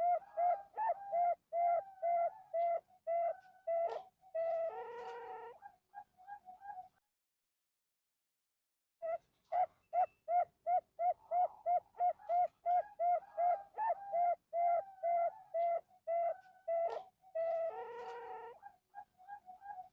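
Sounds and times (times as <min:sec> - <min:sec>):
dove cooing: 0:00.0 - 0:07.0, 0:09.0 - 0:19.9.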